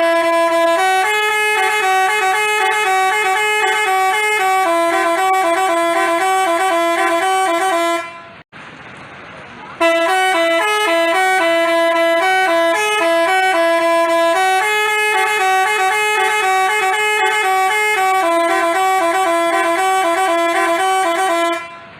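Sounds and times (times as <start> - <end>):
bus horn playing a tune: 0.0 - 8.4, 9.8 - 21.9.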